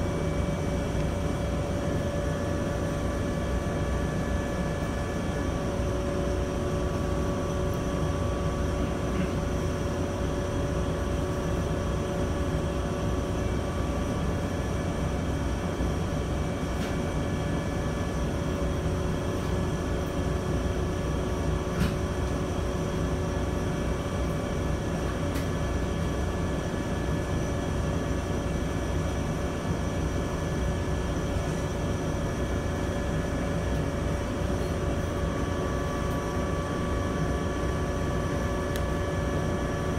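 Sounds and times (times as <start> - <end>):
train equipment humming: 0.0 - 39.9.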